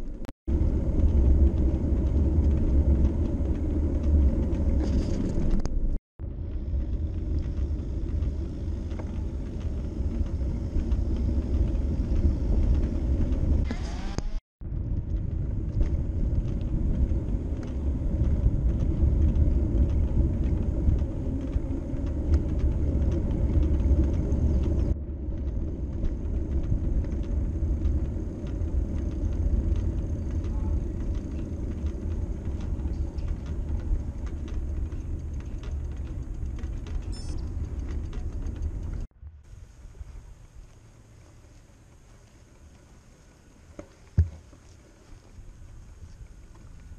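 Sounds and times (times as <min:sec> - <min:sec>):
tyres rumbling on pavement: 0:00.1 - 0:46.9.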